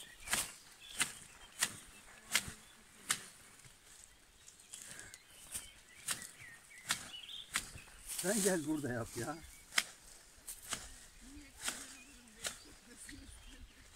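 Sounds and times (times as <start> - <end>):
shears snipping: 0.0 - 4.0, 4.8 - 13.6.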